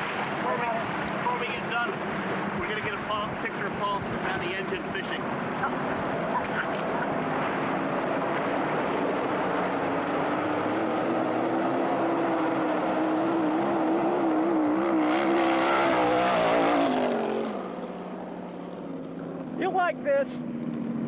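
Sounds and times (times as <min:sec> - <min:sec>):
racing boat engine droning: 0:00.0 - 0:21.0.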